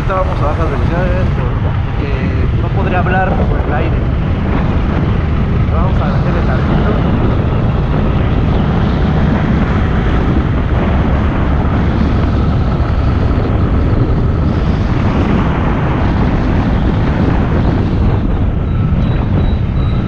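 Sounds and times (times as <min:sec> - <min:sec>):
motorcycle engine running: 0:00.0 - 0:20.0
wind rush over microphone: 0:00.0 - 0:20.0.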